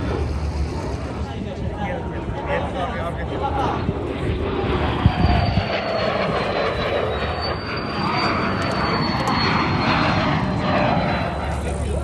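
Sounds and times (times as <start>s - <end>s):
aircraft engine flying by: 0.0s - 12.0s.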